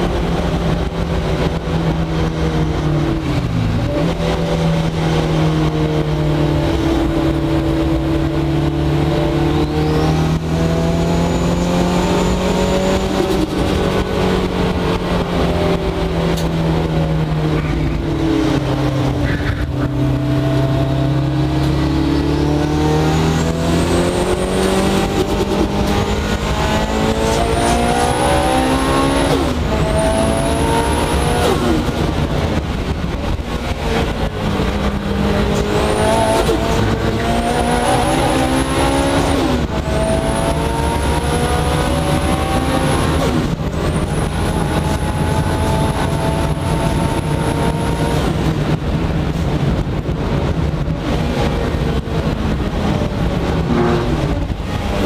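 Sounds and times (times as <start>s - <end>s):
high whine with revs: 0.0s - 55.0s
race car engine revving: 0.0s - 55.0s.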